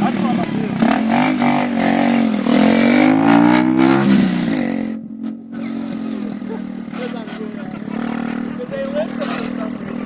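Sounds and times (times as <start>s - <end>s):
small motorcycle engine revving: 0.0s - 10.0s.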